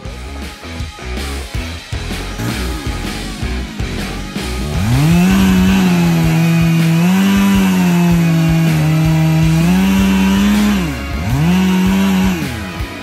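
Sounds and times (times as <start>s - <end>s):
chainsaw cutting wood: 1.9s - 13.0s.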